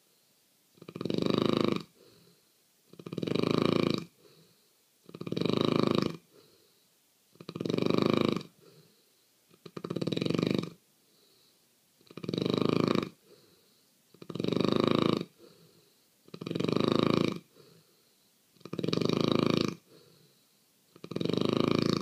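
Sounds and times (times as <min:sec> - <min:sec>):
person snoring: 0:00.8 - 0:06.7, 0:07.4 - 0:18.0, 0:18.6 - 0:22.0.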